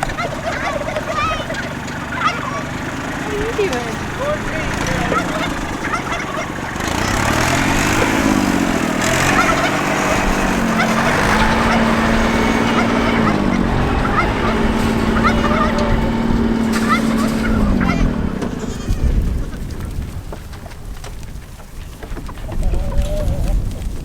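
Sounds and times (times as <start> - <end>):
tractor diesel engine revving: 0.0 - 20.7
farm animals calling: 0.0 - 24.0.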